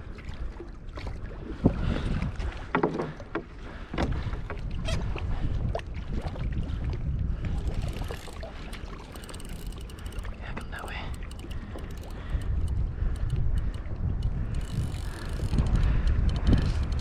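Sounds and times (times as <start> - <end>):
water sloshing around boat: 0.0 - 17.0
wind rumble on microphone: 0.0 - 17.0.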